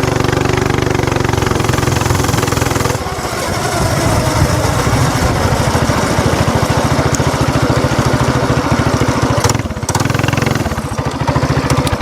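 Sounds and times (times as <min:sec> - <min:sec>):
small gas engine running: 0:00.0 - 0:12.0.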